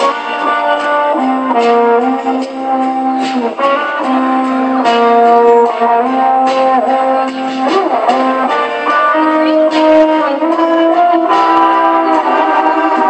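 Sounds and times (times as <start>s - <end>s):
street performers playing music: 0.0s - 13.0s.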